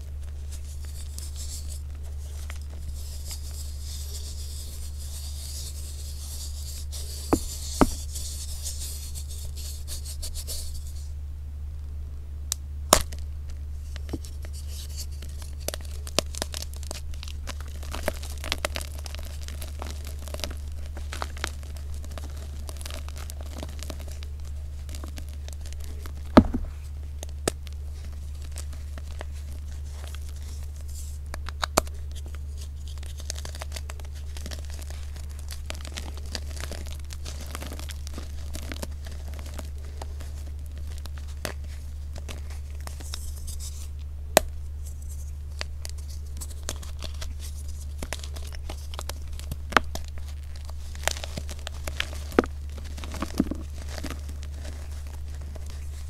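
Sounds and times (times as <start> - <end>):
chalk crunching and cracking: 0.0 - 11.1, 12.9 - 56.0
steady low hum: 0.0 - 56.0.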